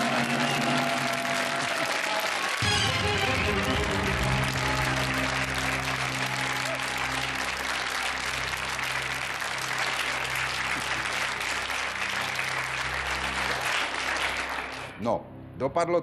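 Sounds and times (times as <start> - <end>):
studio audience applauding: 0.0 - 15.0
low sustained music: 2.6 - 16.0.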